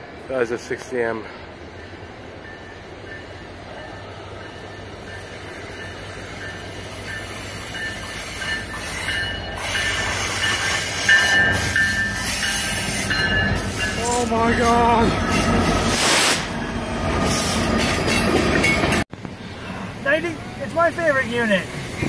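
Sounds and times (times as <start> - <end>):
locomotive rumble: 0.0 - 22.0.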